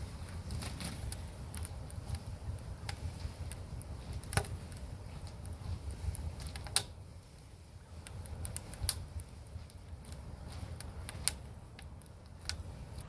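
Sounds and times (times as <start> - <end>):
low steady rumble: 0.0 - 13.0
wood fire crackling in a stove: 0.0 - 13.0.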